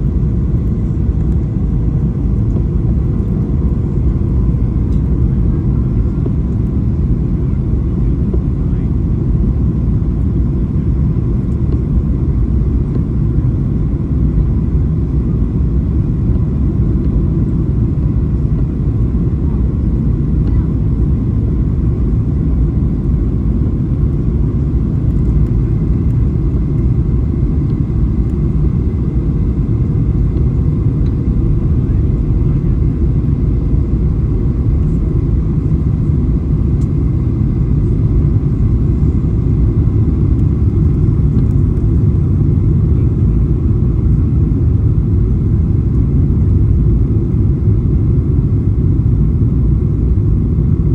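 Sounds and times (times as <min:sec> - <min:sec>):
airliner cabin rumble: 0:00.0 - 0:50.9
faint steady whine: 0:00.0 - 0:50.9.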